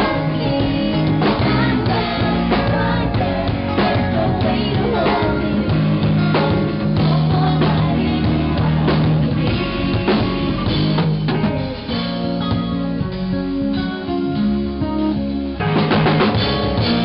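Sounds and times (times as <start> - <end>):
drum kit beat: 0.0 - 17.0
pop rock band playing: 0.0 - 17.0.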